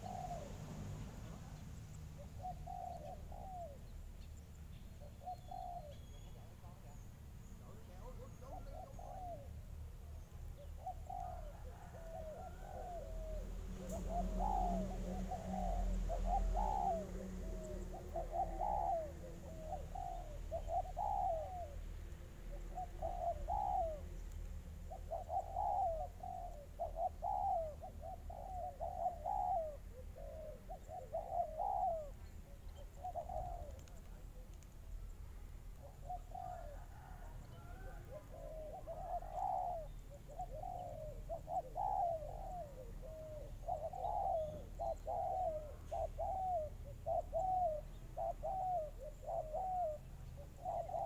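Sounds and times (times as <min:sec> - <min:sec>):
doves cooing: 0:00.0 - 0:35.0, 0:35.7 - 0:51.0.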